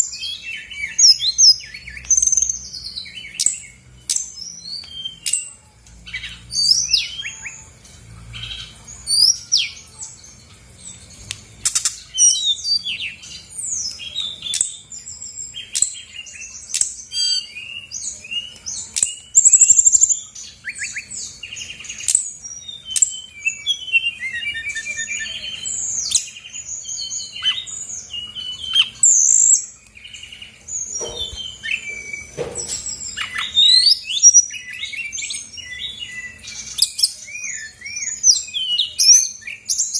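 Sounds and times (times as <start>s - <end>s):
flycatcher singing: 0.0s - 39.9s.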